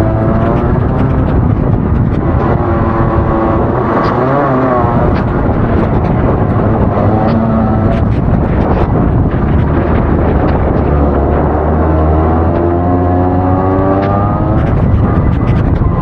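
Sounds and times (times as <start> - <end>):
exhaust clicks and crackles: 0.0 - 16.0
kart engine revving: 0.0 - 16.0.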